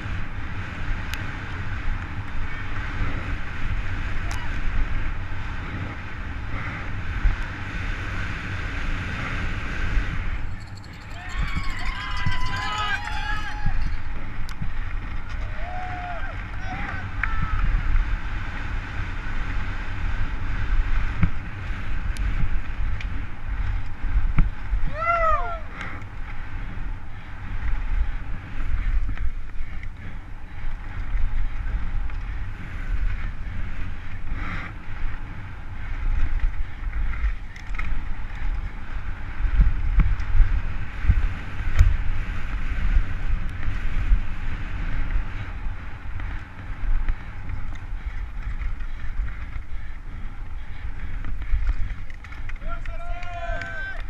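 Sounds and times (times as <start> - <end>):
bike tyres rumbling on dirt: 0.0 - 54.0
wind buffeting microphone: 0.0 - 54.0.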